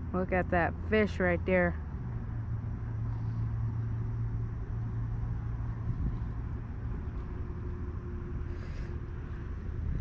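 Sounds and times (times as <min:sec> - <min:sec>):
distant engine hum: 0:00.0 - 0:10.0.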